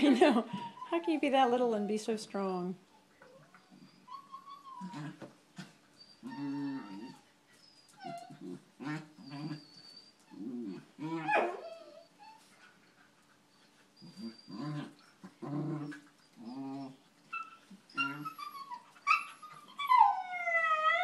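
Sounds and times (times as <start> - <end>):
dogs growling and whining: 0.0 - 21.0.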